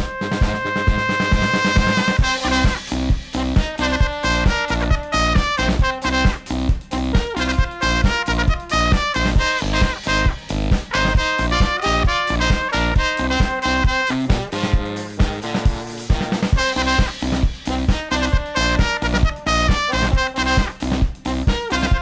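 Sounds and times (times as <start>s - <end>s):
brass band playing dance-pop: 0.0s - 22.0s
drums beat: 0.0s - 22.0s.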